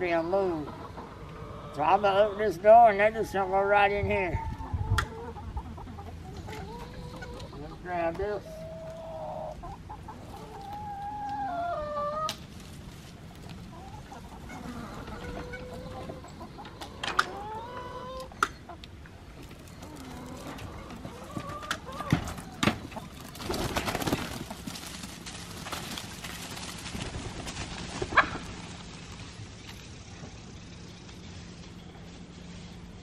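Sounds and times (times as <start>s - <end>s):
hens clucking: 0.0s - 28.8s
rustling of hens: 0.0s - 33.0s.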